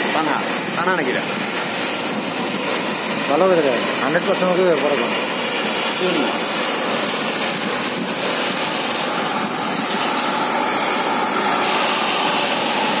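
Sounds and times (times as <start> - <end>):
steam venting hiss: 0.0 - 13.0.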